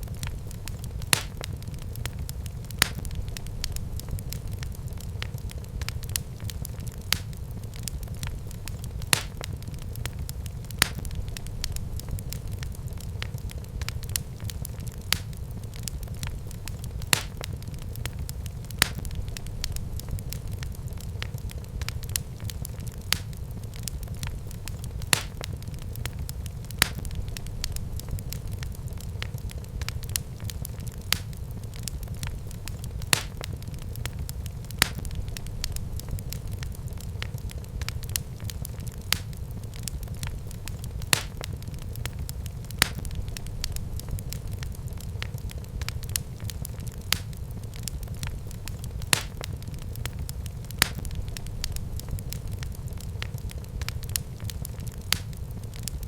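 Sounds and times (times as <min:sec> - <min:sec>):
fire crackling and popping: 0:00.0 - 0:56.0
fire rumbling: 0:00.0 - 0:56.0.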